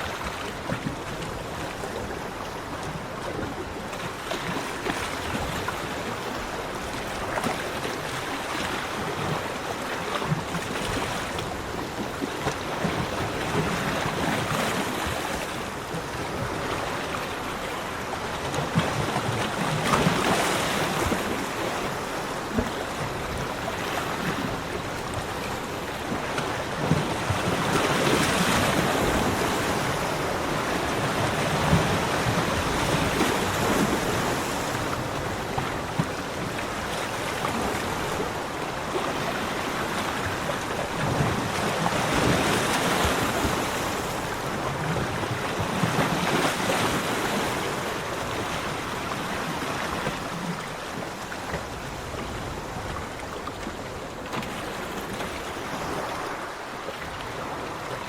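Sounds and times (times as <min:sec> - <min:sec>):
ocean waves breaking on beach: 0:00.0 - 0:58.0.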